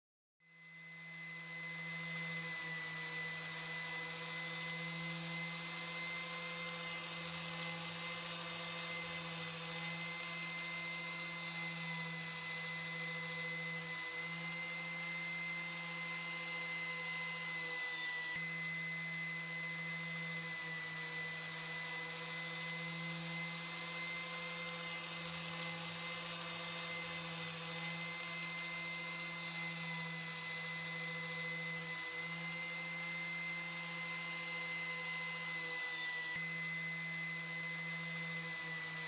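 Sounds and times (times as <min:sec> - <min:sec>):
small power tool whining: 0:00.4 - 0:39.0.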